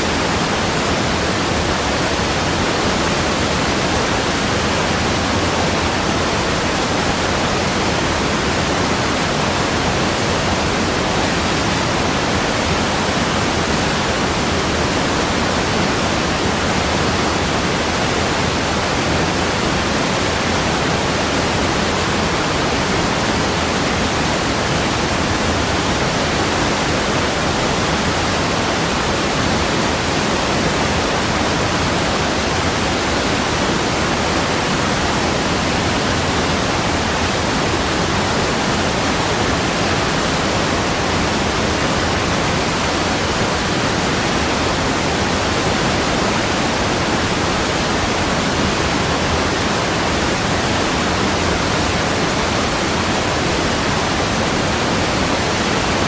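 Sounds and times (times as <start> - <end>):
rushing water hiss: 0.0 - 56.0.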